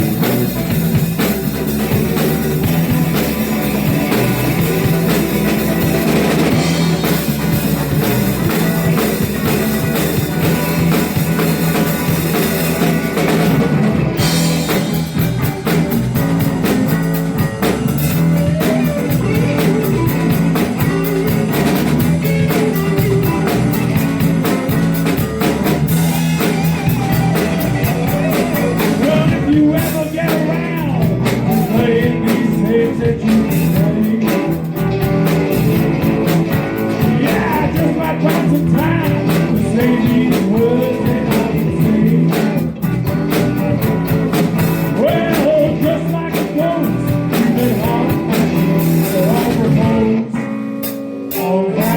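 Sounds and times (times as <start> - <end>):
live blues band playing: 0.0 - 51.9.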